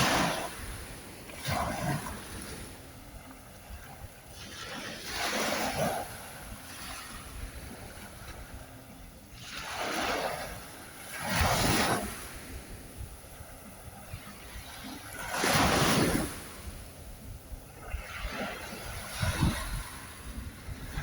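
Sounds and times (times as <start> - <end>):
ocean waves washing ashore: 0.0 - 21.0
wind rumble on microphone: 0.0 - 21.0.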